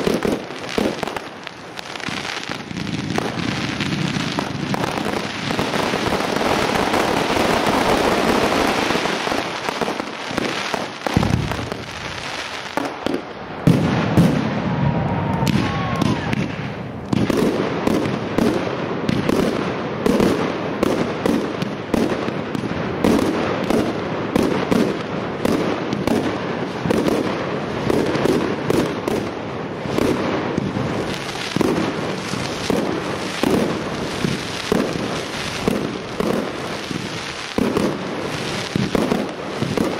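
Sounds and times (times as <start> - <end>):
firework crackles: 0.0 - 39.9
fireworks bursting: 0.0 - 39.9
loud firework bangs: 0.0 - 39.9.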